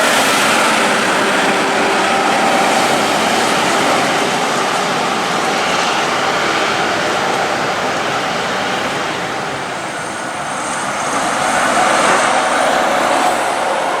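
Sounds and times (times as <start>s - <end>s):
heavy trucks passing: 0.0s - 14.0s.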